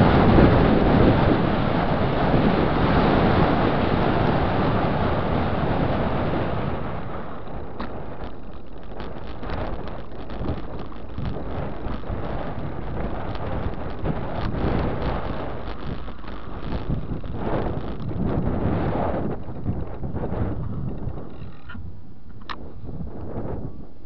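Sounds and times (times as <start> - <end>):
bike rattling on gravel: 0.0 - 23.7
wind rushing over microphone: 0.0 - 24.0.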